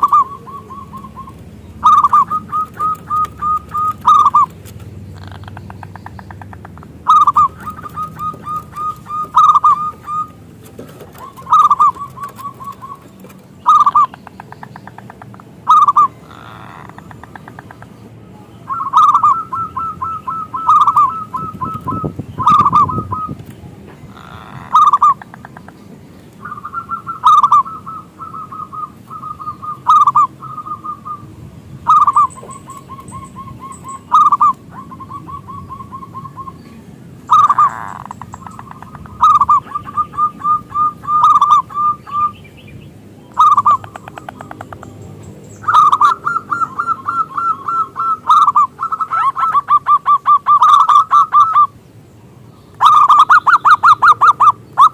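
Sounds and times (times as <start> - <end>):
dove cooing: 0.0 - 17.9, 18.7 - 25.8, 26.4 - 42.4, 43.3 - 44.9, 45.6 - 51.8, 52.8 - 54.9.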